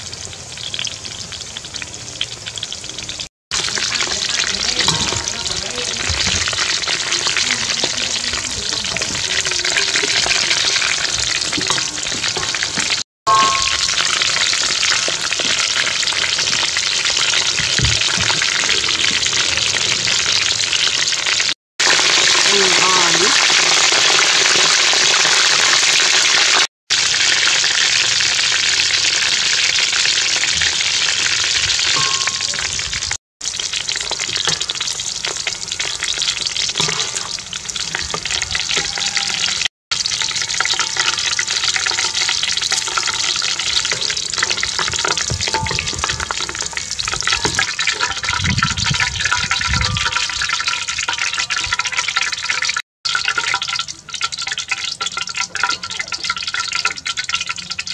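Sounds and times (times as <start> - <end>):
deep-frying sizzle and crackle: 0.0 - 57.9.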